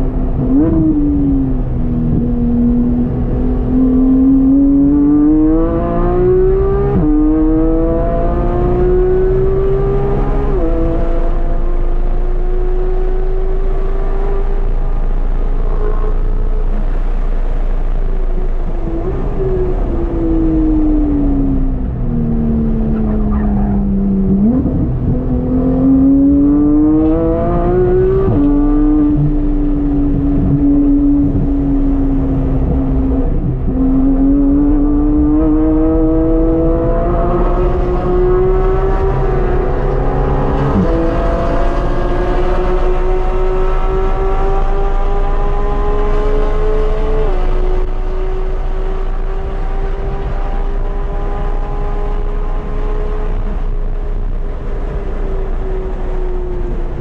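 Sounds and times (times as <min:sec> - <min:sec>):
sports car engine revving: 0:00.0 - 0:57.0.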